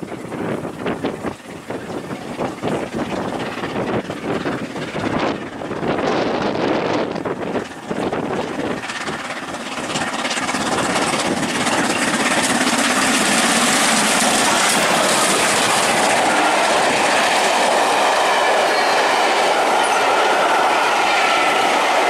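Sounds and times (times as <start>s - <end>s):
steam locomotive passing: 0.0s - 22.0s.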